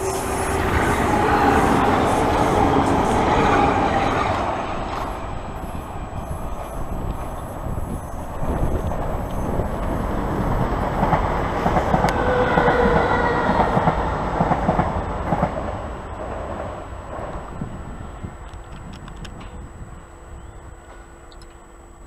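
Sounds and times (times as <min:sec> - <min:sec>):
brief train whine: 0:00.0 - 0:22.0.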